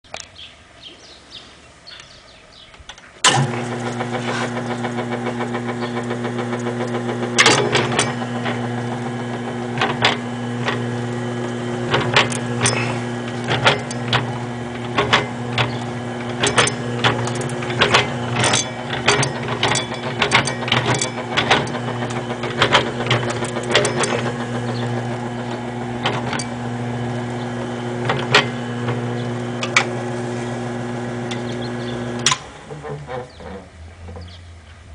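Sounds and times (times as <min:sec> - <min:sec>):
machine clicks and clunks: 0:02.8 - 0:34.3
slicer motor humming: 0:03.2 - 0:34.3.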